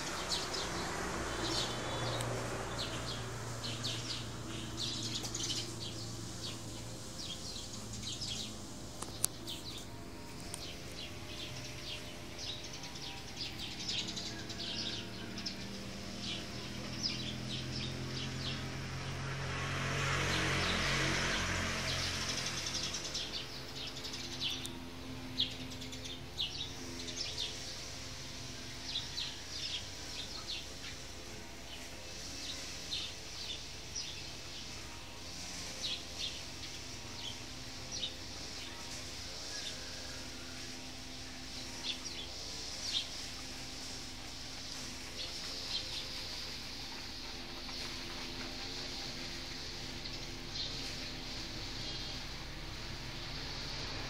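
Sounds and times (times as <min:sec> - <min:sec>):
small birds chirping: 0:00.0 - 0:19.4, 0:20.2 - 0:54.0
broad rush of noise: 0:00.0 - 0:54.0
steady low hum: 0:00.0 - 0:54.0.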